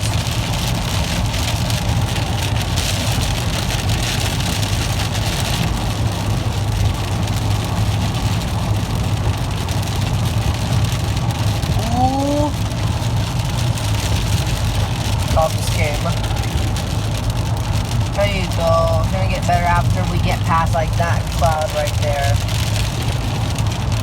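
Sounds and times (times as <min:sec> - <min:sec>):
engine and road rumble: 0:00.0 - 0:24.0
rain hissing on vehicle: 0:00.0 - 0:24.0.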